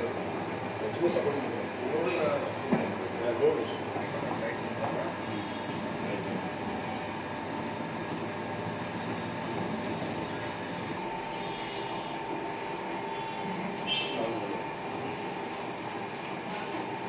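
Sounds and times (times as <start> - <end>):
oil mill motor rumbling: 0.0 - 17.0.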